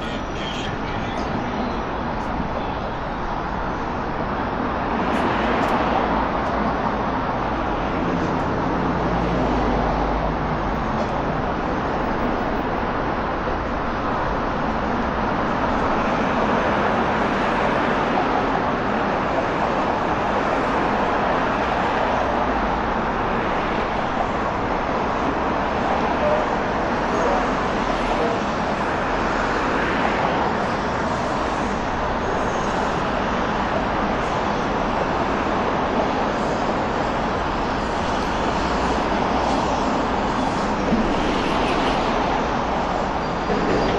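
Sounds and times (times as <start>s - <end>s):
cars passing: 0.0s - 43.9s.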